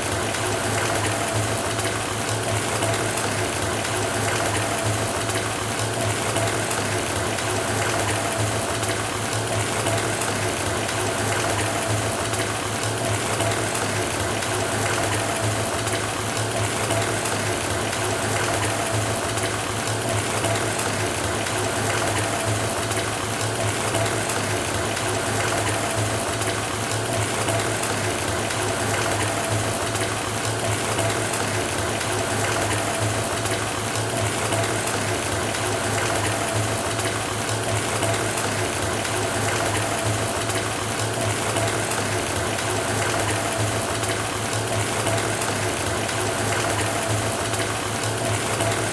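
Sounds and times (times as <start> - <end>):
tap water pouring into bathtub: 0.0 - 48.9.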